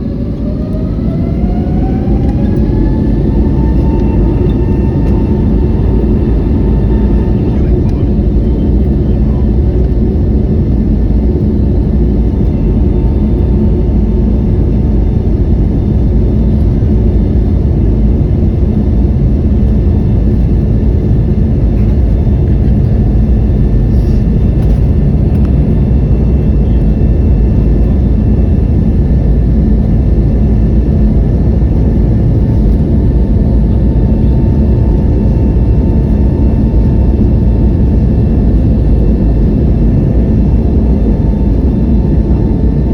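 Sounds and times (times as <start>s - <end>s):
faint steady whine: 0.0s - 42.9s
jet engines rumbling: 0.0s - 42.9s.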